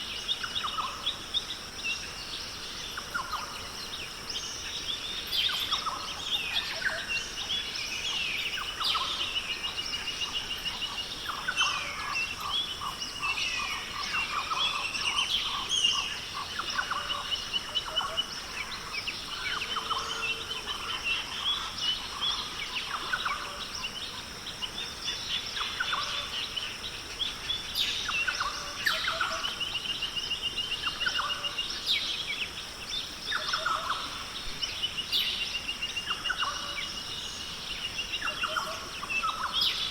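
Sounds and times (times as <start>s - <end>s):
birds chirping and calling: 2.9s - 39.9s.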